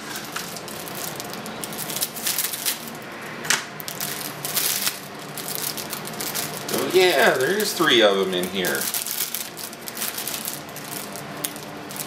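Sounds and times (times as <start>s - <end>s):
packaging rustling and rattling: 0.0s - 3.0s, 3.8s - 12.0s.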